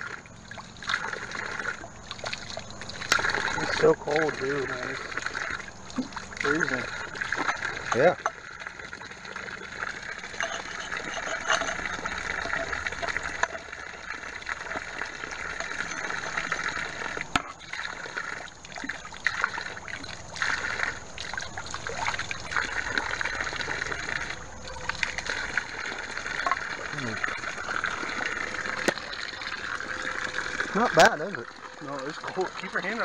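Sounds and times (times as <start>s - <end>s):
water pouring from a spigot: 0.0s - 33.0s.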